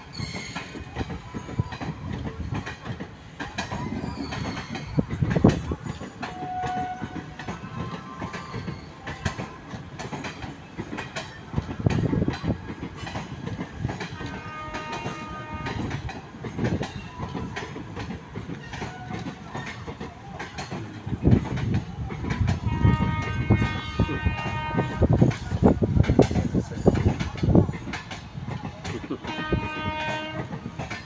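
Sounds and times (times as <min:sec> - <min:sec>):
train wheels rumbling on rail: 0:00.0 - 0:31.0
wheels clanking over rail joints: 0:00.0 - 0:31.0.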